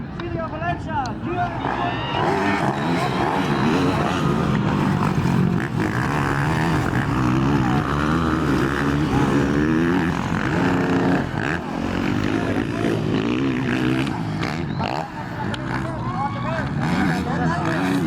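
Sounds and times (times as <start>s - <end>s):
motocross bike engines revving: 0.2s - 18.0s.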